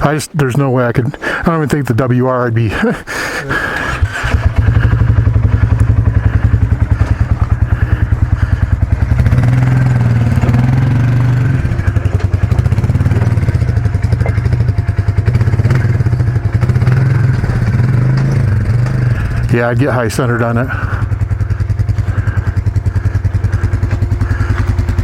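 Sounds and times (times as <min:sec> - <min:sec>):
motorcycle engine running: 0:03.7 - 0:25.0.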